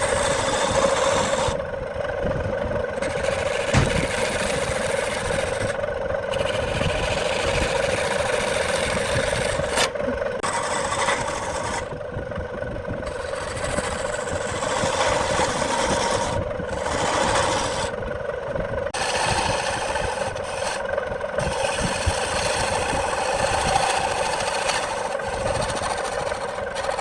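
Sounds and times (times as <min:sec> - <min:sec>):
tool scraping spinning wood: 0:00.0 - 0:27.0
wood lathe motor hum: 0:00.0 - 0:27.0.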